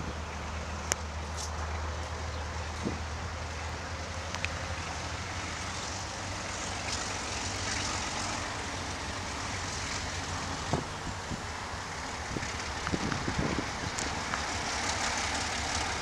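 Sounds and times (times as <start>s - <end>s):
locomotive engine rumble: 0.0s - 16.0s.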